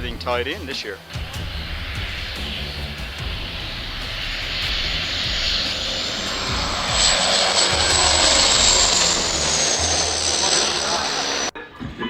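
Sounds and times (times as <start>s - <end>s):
aircraft flying past: 1.0s - 11.5s
high thin engine whine: 1.0s - 11.5s.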